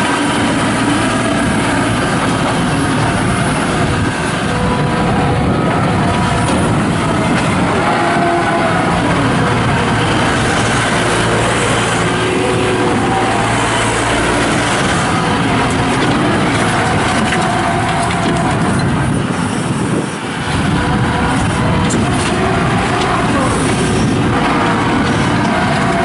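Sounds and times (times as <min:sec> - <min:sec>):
loader diesel engine running: 0:00.0 - 0:26.0.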